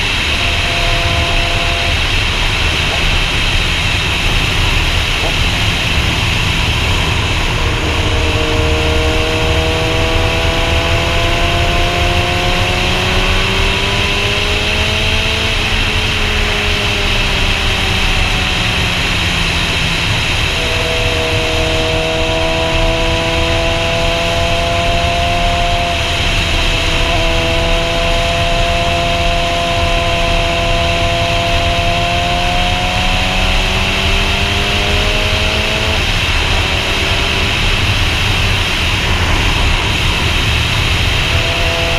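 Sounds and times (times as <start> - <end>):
motorcycle engine running: 0.0 - 41.9
wind rush on microphone: 0.0 - 41.9.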